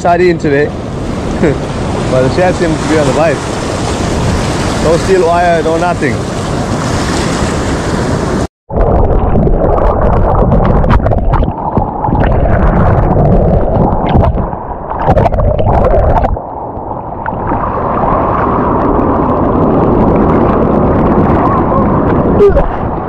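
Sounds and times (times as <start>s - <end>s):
sea water washing: 0.4s - 23.0s
wind buffeting microphone: 0.7s - 23.0s.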